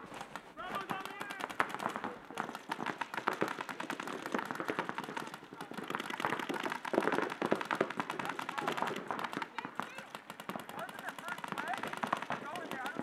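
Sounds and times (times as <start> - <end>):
paintball markers firing rapidly: 0.0 - 13.0.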